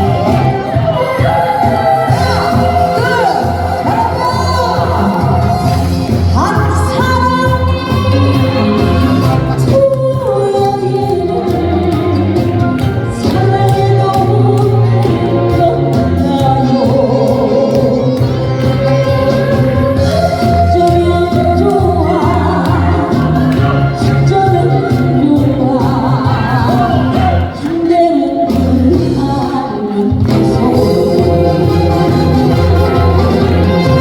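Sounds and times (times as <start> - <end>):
musical accompaniment with bass: 0.0 - 34.0
woman singing: 0.0 - 34.0.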